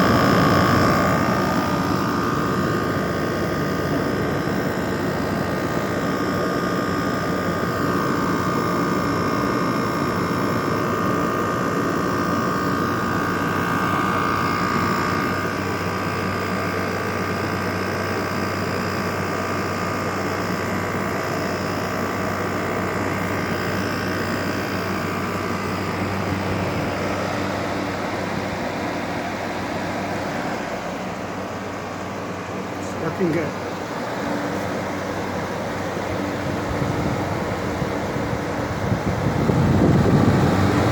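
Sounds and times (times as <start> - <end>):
air conditioner running: 0.0 - 40.9.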